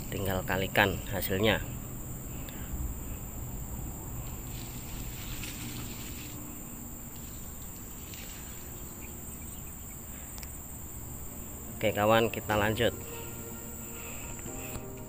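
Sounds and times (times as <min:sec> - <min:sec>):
leaves rustling: 0:00.0 - 0:14.7
insects chirring: 0:00.0 - 0:15.0.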